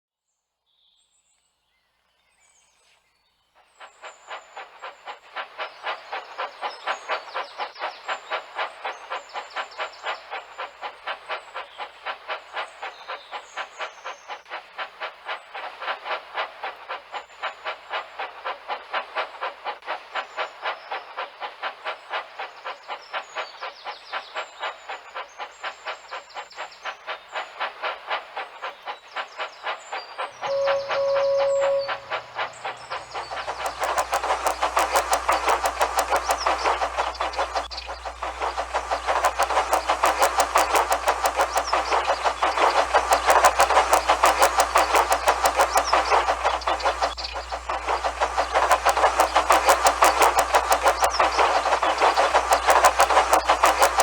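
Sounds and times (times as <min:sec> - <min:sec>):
steam locomotive chuffing: 0:03.6 - 0:54.0.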